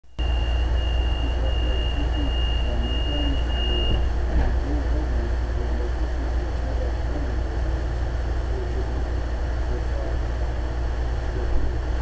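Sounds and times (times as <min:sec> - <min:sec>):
low rumble inside train: 0:00.1 - 0:12.0.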